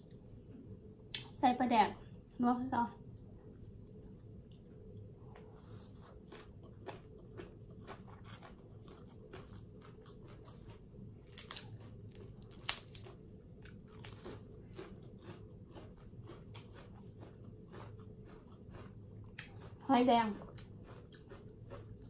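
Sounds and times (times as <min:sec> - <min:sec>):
faint low hum: 0:00.0 - 0:22.0
crunchy chewing: 0:03.4 - 0:22.0.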